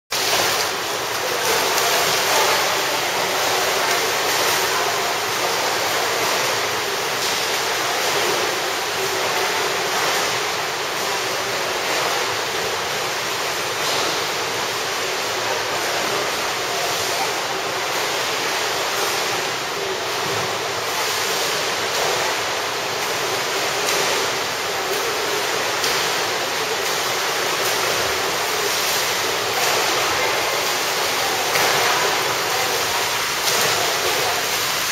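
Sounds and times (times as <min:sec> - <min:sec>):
swimmers splashing water: 0:00.1 - 0:34.9.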